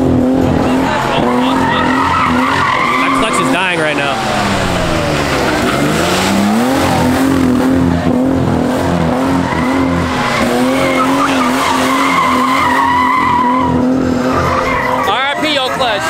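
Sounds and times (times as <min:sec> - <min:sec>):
car engine revving high: 0:00.0 - 0:16.0
tyres screeching: 0:00.3 - 0:07.7, 0:09.0 - 0:16.0.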